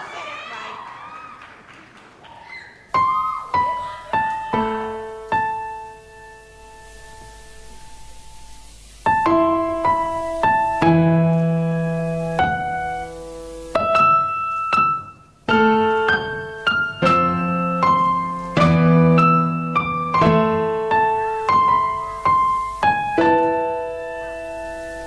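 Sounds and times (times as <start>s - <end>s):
solo piano playing: 2.9s - 25.0s.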